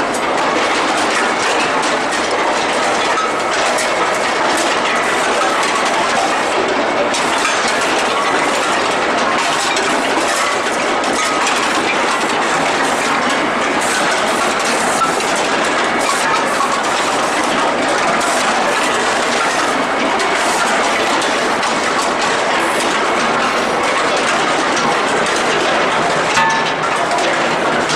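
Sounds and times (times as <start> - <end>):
metallic clattering machinery: 0.0 - 27.9.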